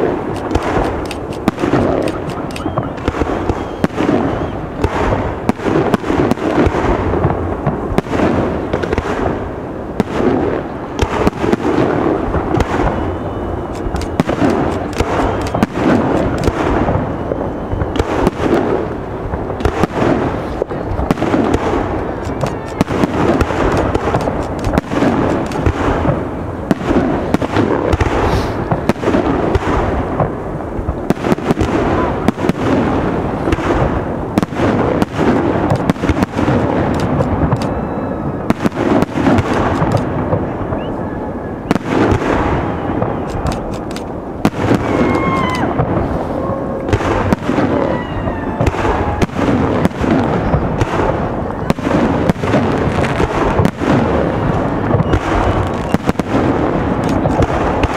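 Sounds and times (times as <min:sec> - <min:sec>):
firework shells bursting: 0:00.0 - 0:40.9, 0:41.6 - 0:57.9
firework rumble and crackle: 0:00.0 - 0:57.9.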